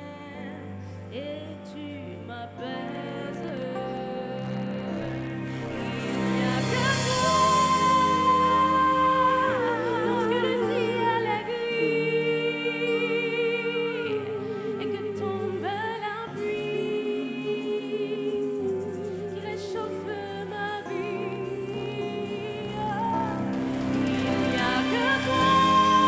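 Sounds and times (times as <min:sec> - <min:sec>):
woman singing ballad: 0:00.0 - 0:26.0.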